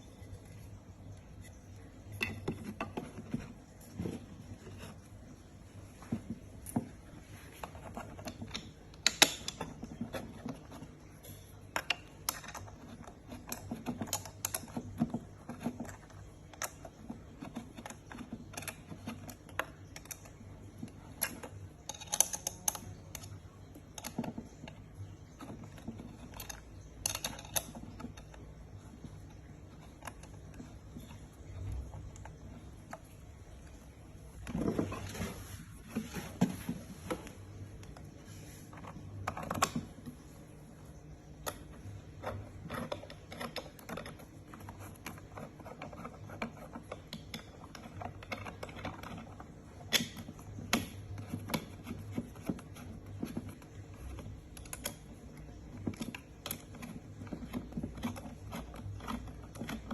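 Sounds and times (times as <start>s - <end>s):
hardware parts clicking and knocking: 0.0s - 59.9s.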